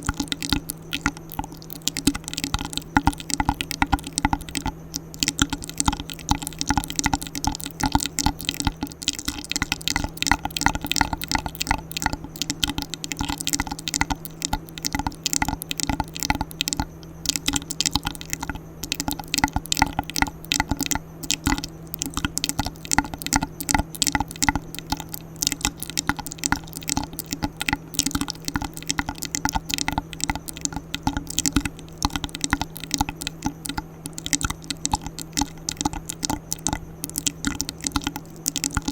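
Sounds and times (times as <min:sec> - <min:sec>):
wet mouth clicks and smacks: 0:00.0 - 0:38.9.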